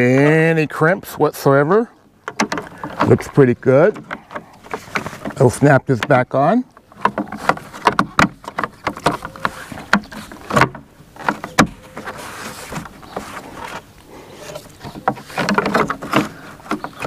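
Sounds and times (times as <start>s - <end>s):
plastic scraping and handling: 2.2s - 17.0s.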